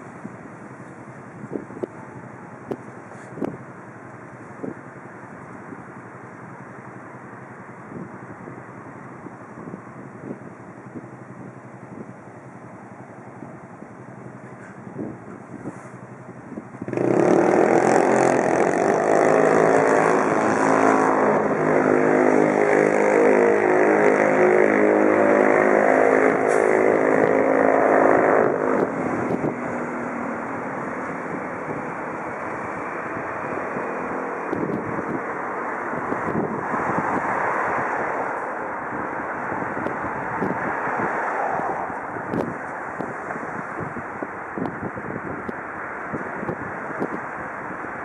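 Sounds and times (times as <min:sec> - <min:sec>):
bus engine running: 0:00.0 - 0:48.0
traffic noise: 0:00.0 - 0:48.0.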